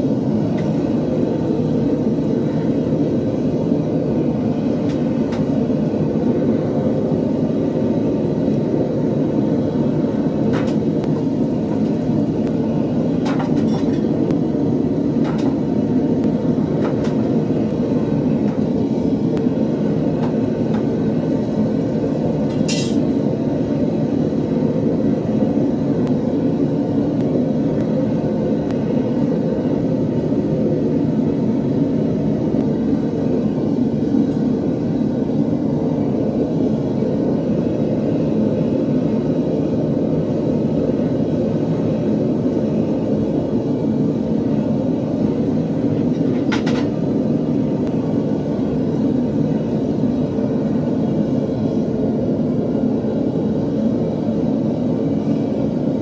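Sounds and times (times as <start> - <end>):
gas burner roaring: 0.0 - 56.0.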